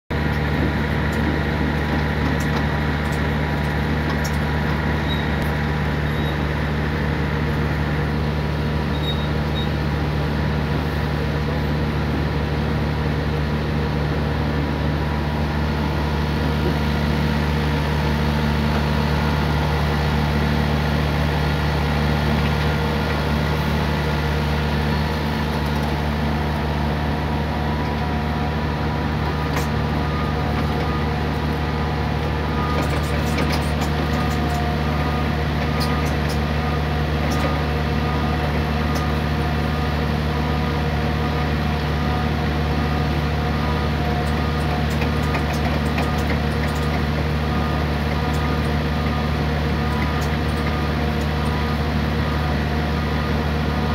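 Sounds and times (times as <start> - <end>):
drilling rig engine drone: 0.1 - 53.9.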